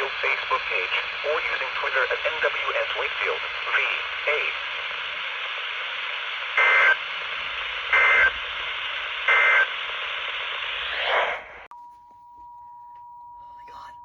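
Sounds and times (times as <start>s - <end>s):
radio static: 0.0s - 11.7s.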